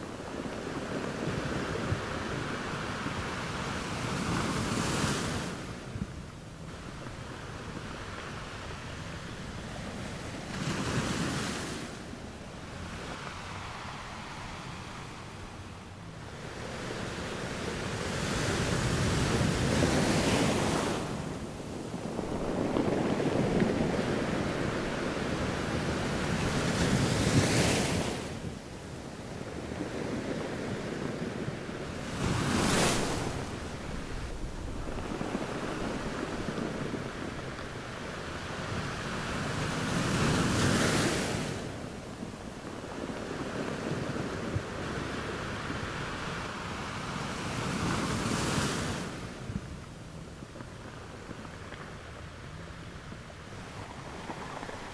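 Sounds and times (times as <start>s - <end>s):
sea waves breaking on beach: 0.0s - 54.9s.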